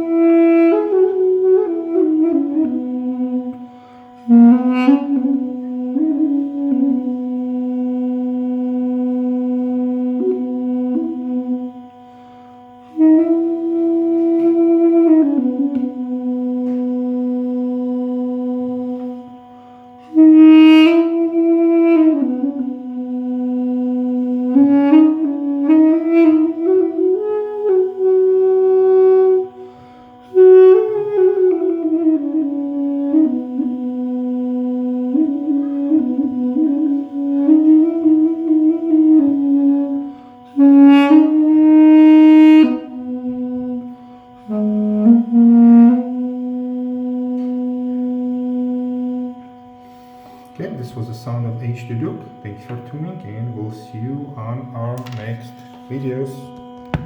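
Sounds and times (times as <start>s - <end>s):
duduk melody: 0.0s - 57.0s
low steady drone: 0.0s - 57.0s.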